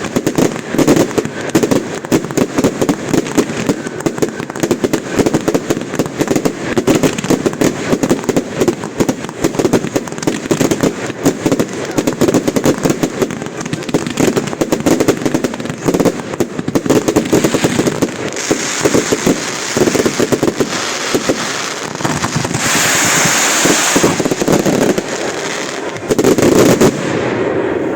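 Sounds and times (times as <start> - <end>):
fireworks crackling and popping: 0.0 - 27.9
fireworks hissing rush: 0.0 - 27.9.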